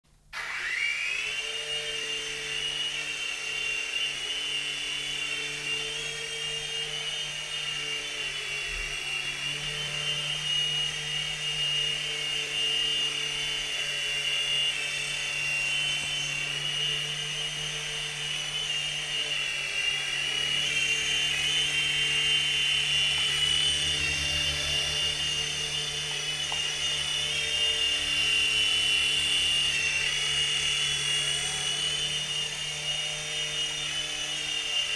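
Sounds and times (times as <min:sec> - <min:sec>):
small electric motors whining: 0:00.4 - 0:34.9.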